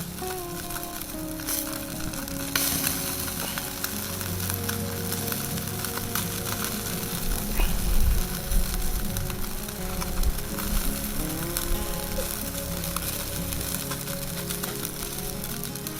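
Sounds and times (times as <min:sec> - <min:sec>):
skewers sizzling over charcoal: 0:00.0 - 0:15.9.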